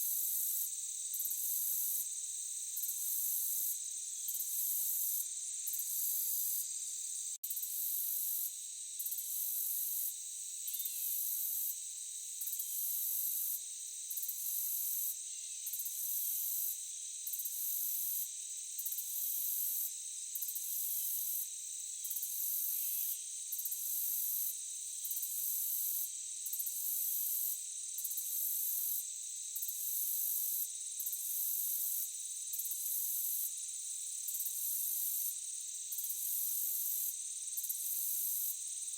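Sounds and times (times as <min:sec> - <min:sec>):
shrill pulsing insect call: 0:00.1 - 0:38.9
crickets trilling: 0:00.2 - 0:38.9.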